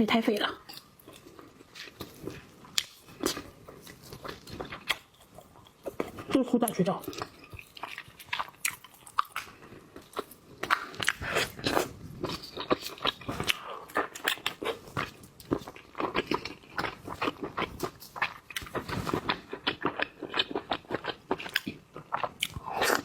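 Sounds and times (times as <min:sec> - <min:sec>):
chewing and crunching food: 0:00.0 - 0:23.0.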